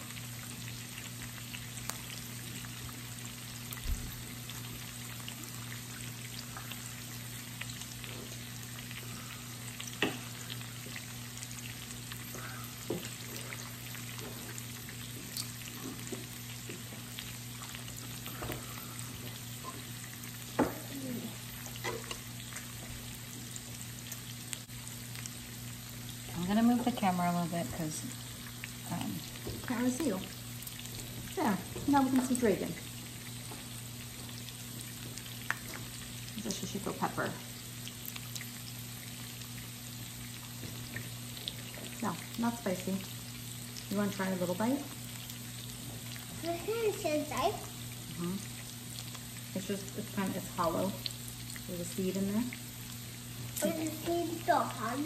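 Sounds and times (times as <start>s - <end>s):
meat sizzling on grill: 0.0s - 55.0s.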